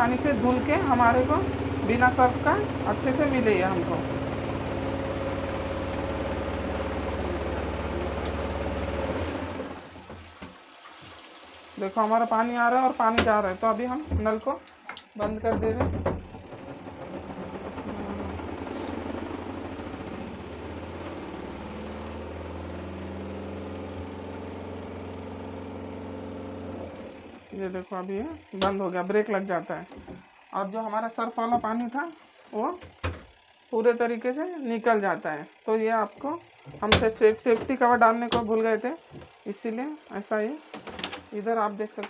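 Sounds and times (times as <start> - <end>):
washing machine spin motor humming: 0.0 - 42.0.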